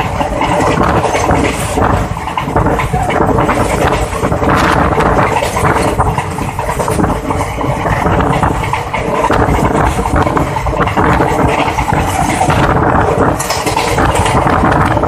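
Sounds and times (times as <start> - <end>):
train wheel and rail rattle: 0.0 - 15.0
wind buffeting microphone: 0.0 - 15.0.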